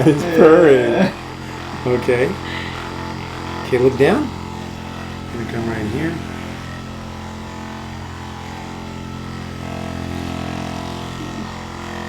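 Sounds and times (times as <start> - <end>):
massager buzzing: 0.0 - 12.0.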